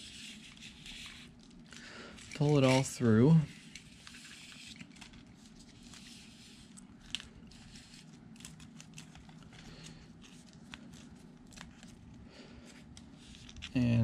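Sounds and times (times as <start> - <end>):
wire rustling and crinkling: 0.3 - 14.0.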